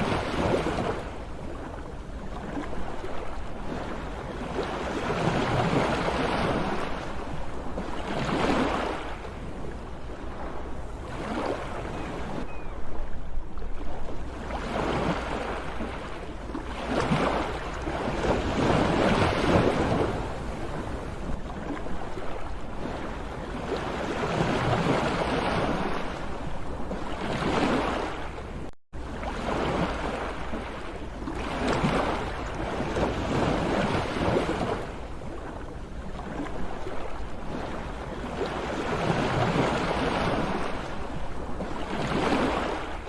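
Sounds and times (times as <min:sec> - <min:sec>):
sea waves breaking: 0:00.0 - 0:43.0.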